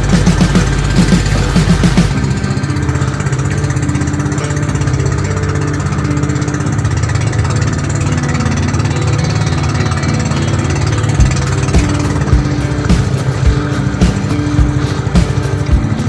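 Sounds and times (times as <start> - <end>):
boat engine puttering: 0.0 - 16.0.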